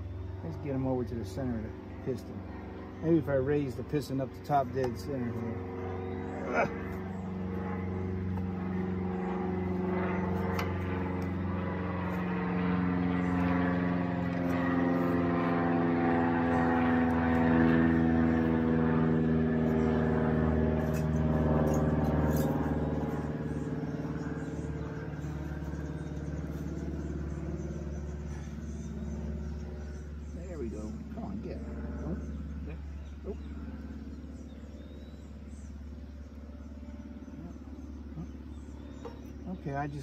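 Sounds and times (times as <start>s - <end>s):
vehicle engine drone: 0.0s - 40.0s.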